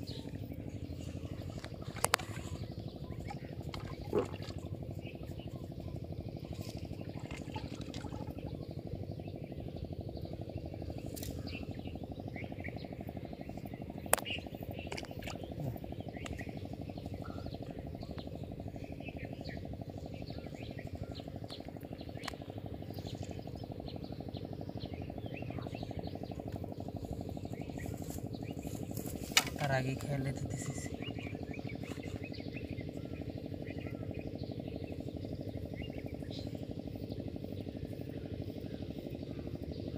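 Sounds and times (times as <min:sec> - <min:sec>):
birds chirping: 0:00.0 - 0:39.9
low pulsing drone: 0:00.0 - 0:39.9.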